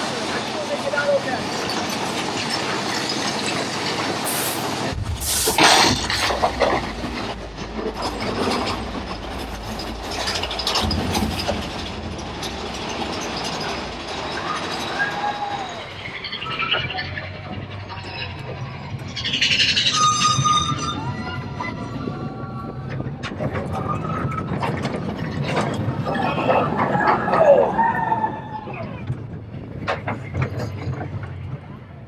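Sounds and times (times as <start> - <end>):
train wheels clacking on track: 0.0 - 32.0.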